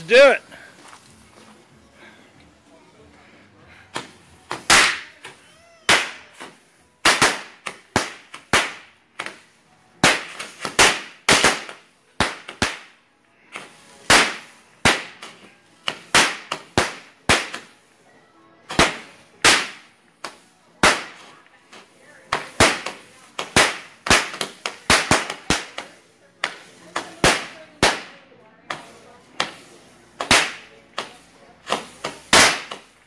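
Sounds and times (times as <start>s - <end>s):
firework bangs: 3.9s - 17.7s, 18.7s - 21.4s, 22.2s - 33.0s.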